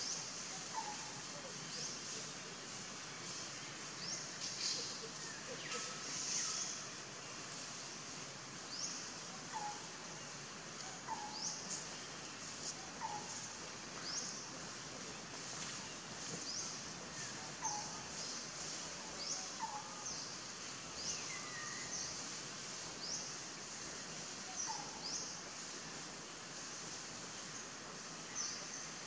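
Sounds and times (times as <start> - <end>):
soft low bird calls: 0.0 - 7.8, 8.6 - 25.8
steady high hiss: 0.0 - 29.0.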